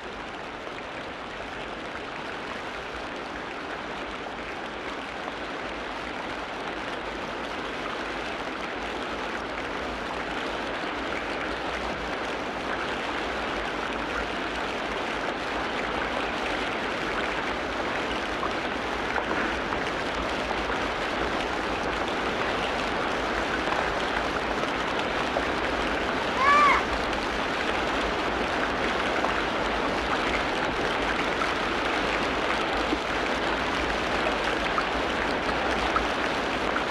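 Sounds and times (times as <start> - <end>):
water rushing: 0.0 - 36.9.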